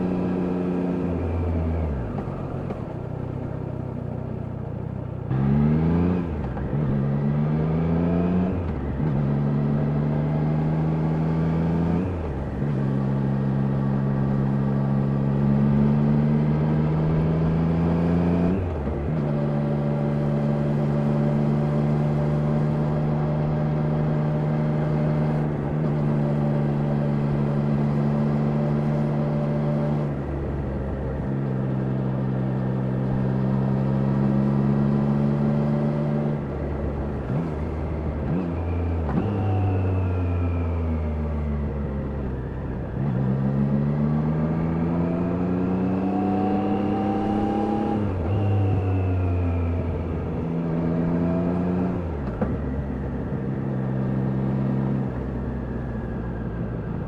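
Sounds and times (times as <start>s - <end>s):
motorcycle engine revving through gears: 0.0s - 57.0s.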